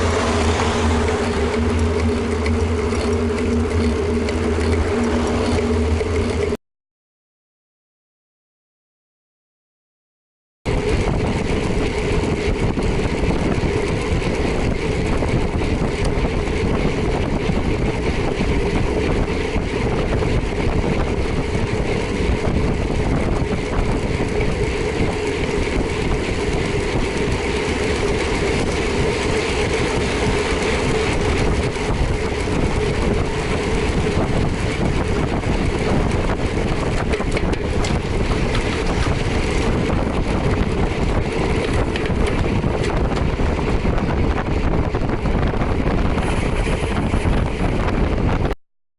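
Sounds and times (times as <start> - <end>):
vehicle engine drone: 0.0 - 6.6, 10.7 - 48.6
wind rush: 0.0 - 6.6, 10.7 - 48.6.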